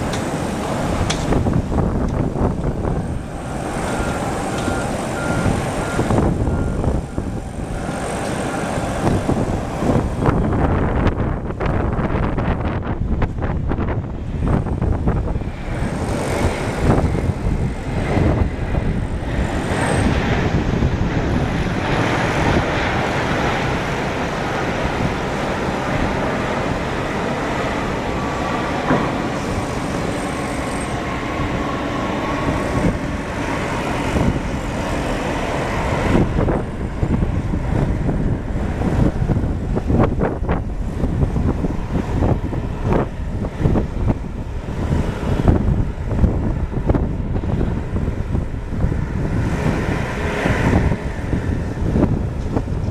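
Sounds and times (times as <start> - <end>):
jet engines roaring: 0.0 - 52.9
wind buffeting microphone: 0.0 - 52.9.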